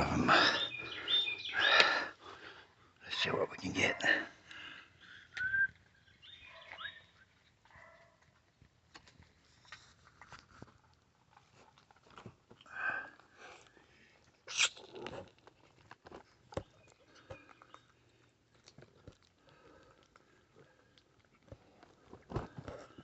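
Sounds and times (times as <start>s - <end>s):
kittens chewing and crunching food: 4.5s - 23.0s.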